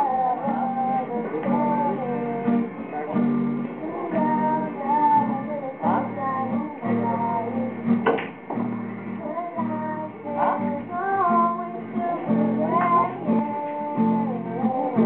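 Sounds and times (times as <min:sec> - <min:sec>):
girls singing together: 0:00.0 - 0:02.8, 0:03.6 - 0:08.3, 0:09.1 - 0:15.0
strummed acoustic guitar: 0:00.0 - 0:15.0.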